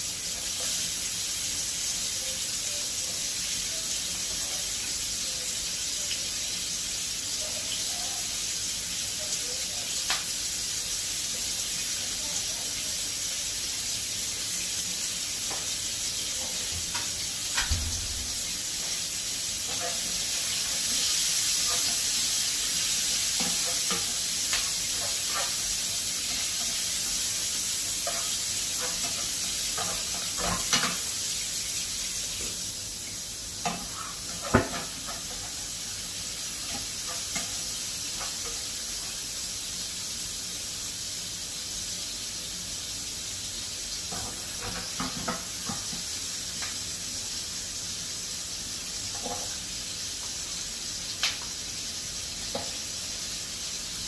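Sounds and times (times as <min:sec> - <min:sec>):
onions sizzling in a frying pan: 0:00.0 - 0:54.0.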